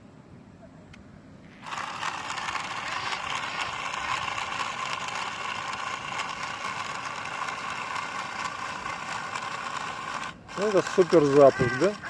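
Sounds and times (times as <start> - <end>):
small electric motors whirring: 1.5 - 12.0.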